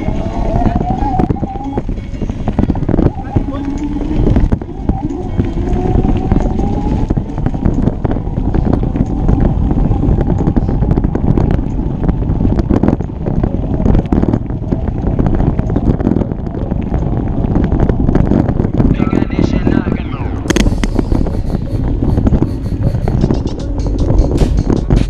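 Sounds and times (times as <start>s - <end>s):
bike knocking and rattling: 0.0s - 19.0s, 20.5s - 25.0s
wind buffeting microphone: 0.0s - 25.0s.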